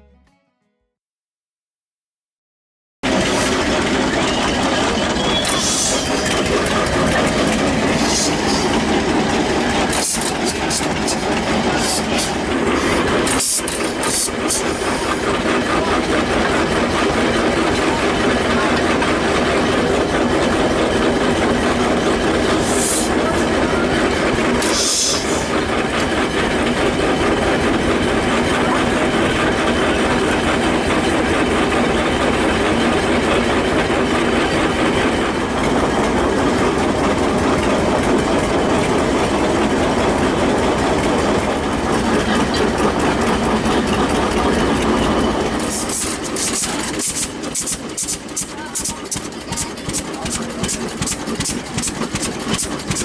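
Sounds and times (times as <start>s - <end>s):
tractor engine running: 3.0s - 53.0s.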